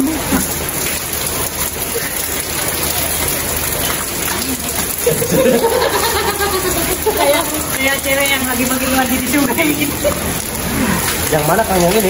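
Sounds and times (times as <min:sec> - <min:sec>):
heavy rain on pavement: 0:00.0 - 0:12.0
rainwater pouring off roof: 0:00.0 - 0:12.0.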